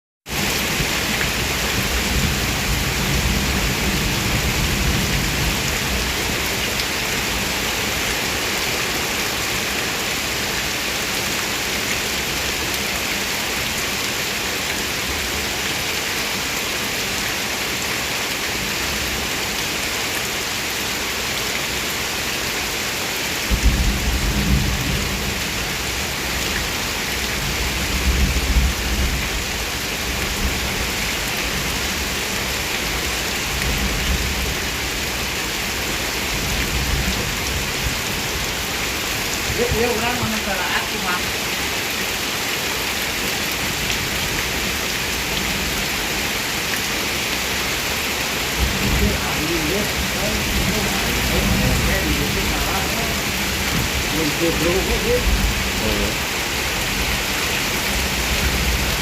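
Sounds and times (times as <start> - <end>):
heavy rain pouring: 0.2 - 59.0.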